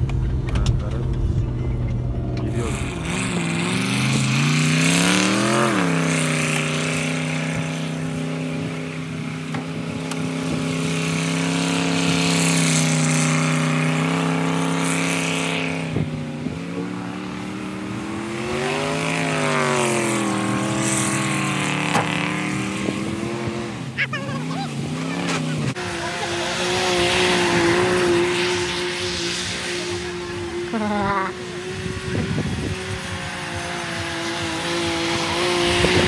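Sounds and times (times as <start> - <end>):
engine revving hard: 2.3 - 36.0.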